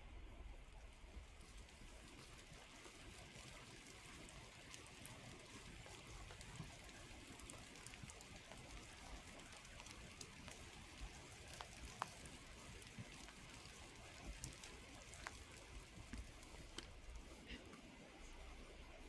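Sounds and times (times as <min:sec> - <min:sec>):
light rain hiss: 0:00.0 - 0:19.0
raindrops ticking: 0:00.4 - 0:19.0.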